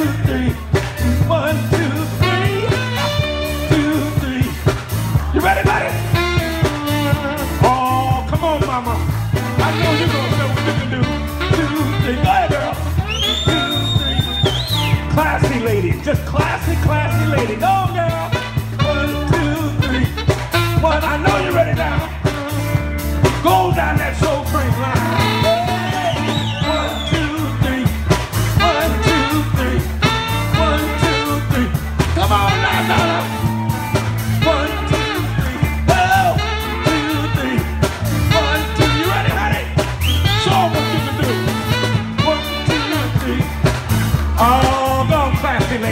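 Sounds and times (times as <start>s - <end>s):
person singing: 0.0s - 22.4s, 23.5s - 39.8s, 40.4s - 43.7s
live soul band playing: 0.0s - 45.9s.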